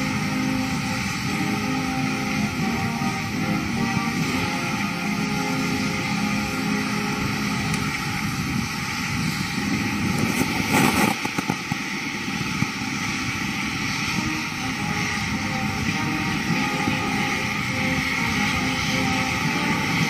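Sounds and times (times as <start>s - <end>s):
heavy rain: 0.0s - 20.0s
wind noise on microphone: 0.0s - 20.0s.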